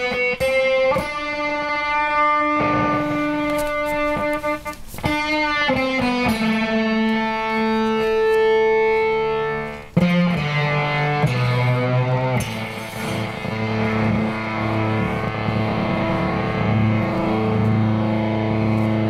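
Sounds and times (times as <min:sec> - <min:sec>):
electric guitar notes through effects: 0:00.0 - 0:19.0.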